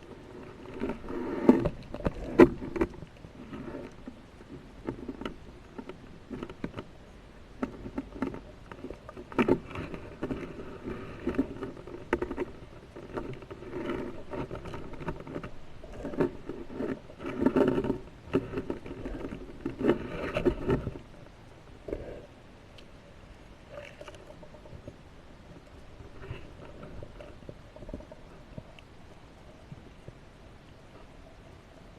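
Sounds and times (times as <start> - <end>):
knocks and scrapes: 0.0 - 21.3, 23.7 - 28.8
water sloshing and rushing: 0.0 - 31.9.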